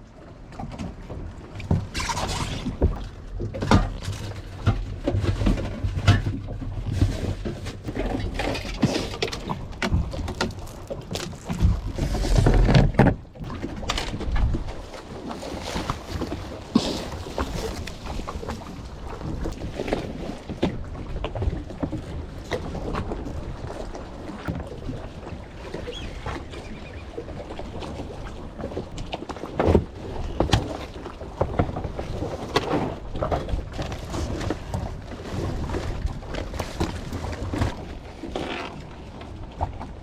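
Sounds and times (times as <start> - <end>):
water sloshing: 0.2 - 40.0.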